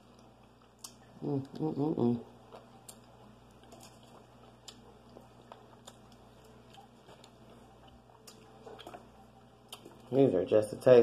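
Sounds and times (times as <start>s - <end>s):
quiet chewing of seafood: 0.0s - 10.2s
low steady hum: 0.0s - 11.0s.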